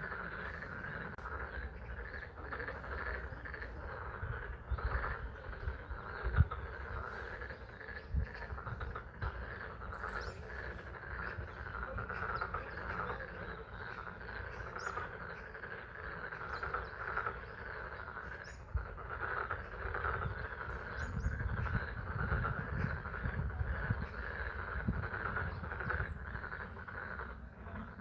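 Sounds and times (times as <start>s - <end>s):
frogs calling: 0.0s - 28.0s.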